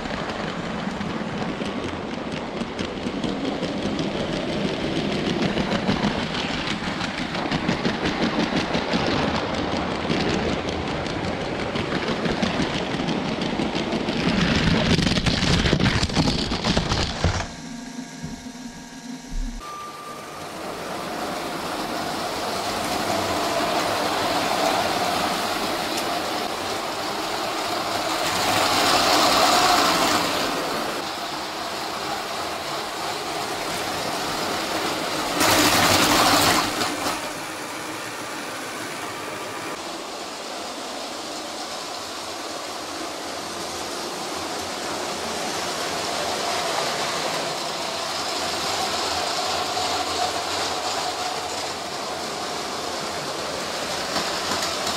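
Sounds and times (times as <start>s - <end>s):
train rolling along track: 0.0s - 17.6s, 19.3s - 54.9s.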